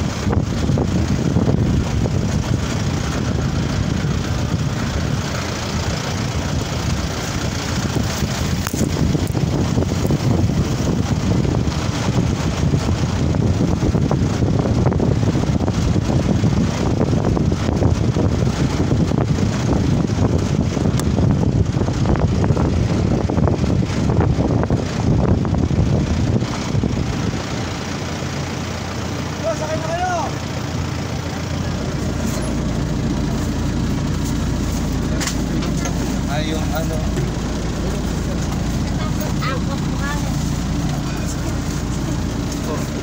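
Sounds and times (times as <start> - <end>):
wind buffeting microphone: 0.0 - 29.2, 30.7 - 43.0.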